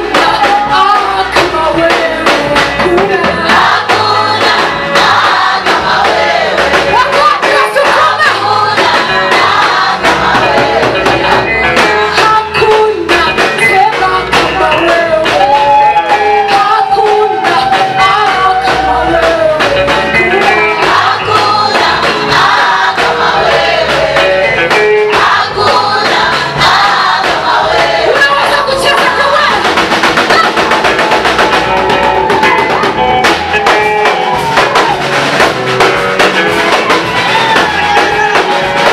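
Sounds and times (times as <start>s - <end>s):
gospel worship music: 0.0s - 38.9s.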